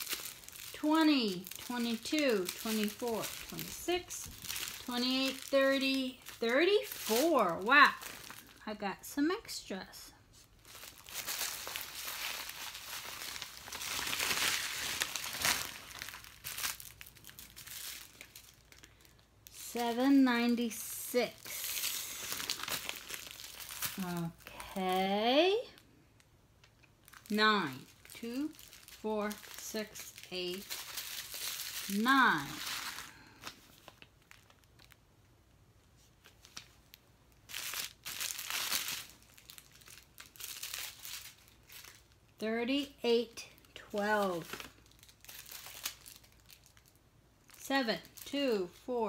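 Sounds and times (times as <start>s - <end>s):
plastic bags crinkling: 0.0s - 8.7s, 10.4s - 19.9s, 21.3s - 25.8s, 26.6s - 35.0s, 36.0s - 42.4s, 43.4s - 48.8s.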